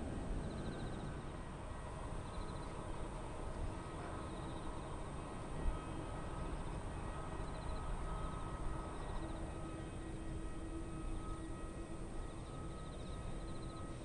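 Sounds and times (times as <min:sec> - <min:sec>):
jet engines rumbling and whining: 0:00.0 - 0:14.0.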